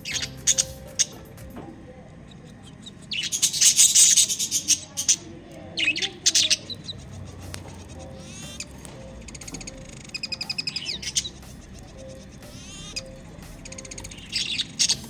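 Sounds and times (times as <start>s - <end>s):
lovebirds chirping: 0.0s - 1.3s, 2.3s - 15.0s.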